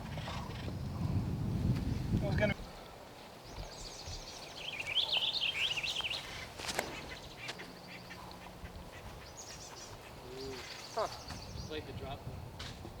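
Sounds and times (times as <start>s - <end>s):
birds chirping: 1.8s - 12.2s.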